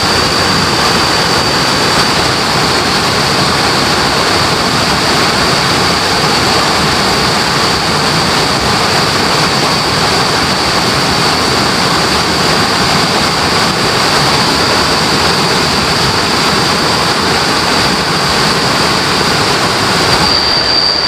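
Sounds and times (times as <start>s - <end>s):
river water rushing: 0.0s - 21.0s
steady high-pitched tone: 0.0s - 21.0s.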